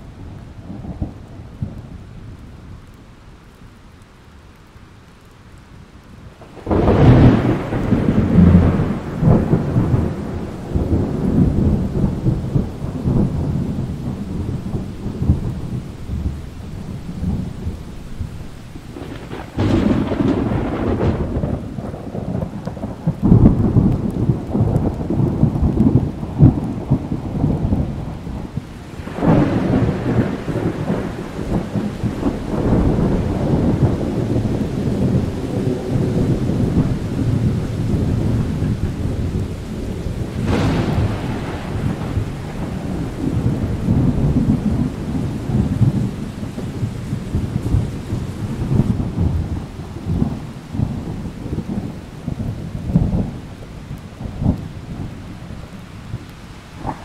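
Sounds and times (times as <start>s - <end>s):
steady rain: 0.0s - 57.0s
thunder rumbling: 6.3s - 57.0s.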